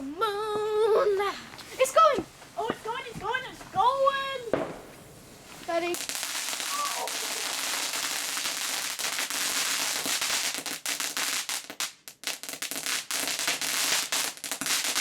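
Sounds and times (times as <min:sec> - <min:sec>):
firework fountain hissing: 0:00.0 - 0:15.0
firework crackling pops: 0:00.6 - 0:15.0.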